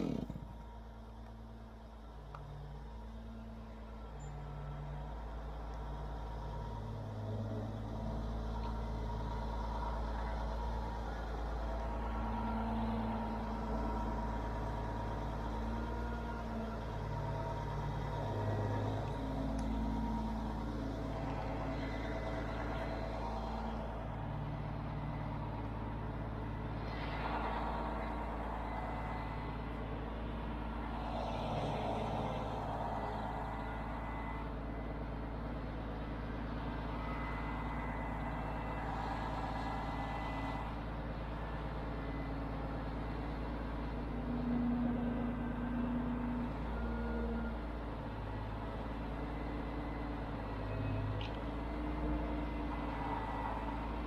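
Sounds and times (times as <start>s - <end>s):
heavy diesel crane engine running: 0.0s - 54.0s.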